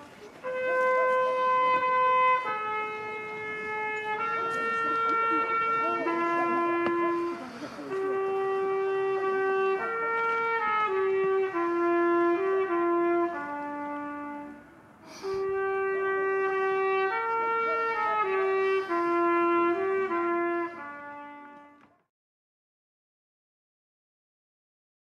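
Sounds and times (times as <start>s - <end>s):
solo trumpet melody: 0.0s - 22.1s.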